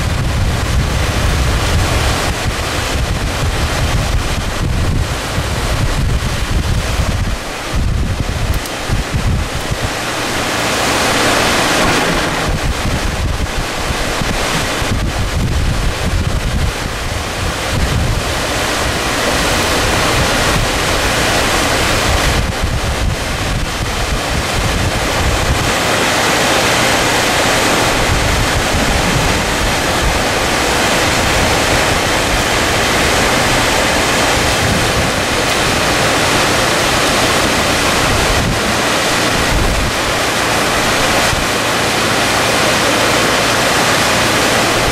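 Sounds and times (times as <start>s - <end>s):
floodwater rushing: 0.0s - 44.9s
wind buffeting microphone: 0.0s - 44.9s.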